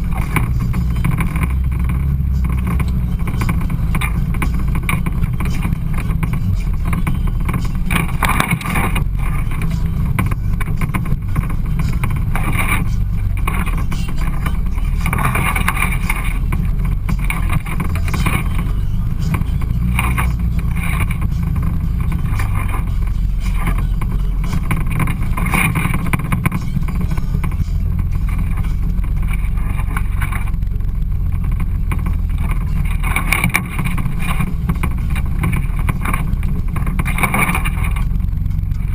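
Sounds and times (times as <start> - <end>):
off-road vehicle engine drone: 0.0 - 38.9.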